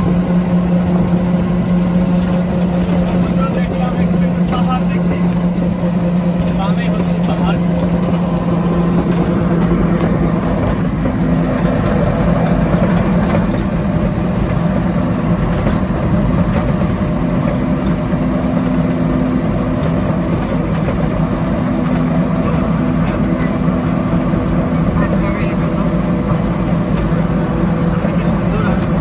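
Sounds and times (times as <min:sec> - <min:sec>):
road and wind noise: 0:00.0 - 0:29.0
vehicle engine running: 0:00.0 - 0:29.0.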